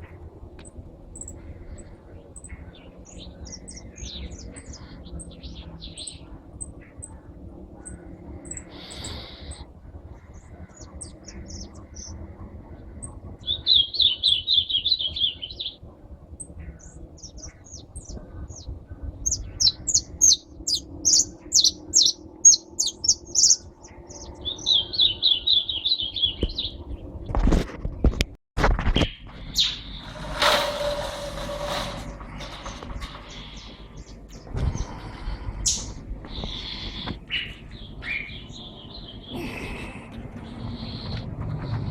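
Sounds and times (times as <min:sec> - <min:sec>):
songbirds singing: 0:00.0 - 0:28.1, 0:28.8 - 0:41.9.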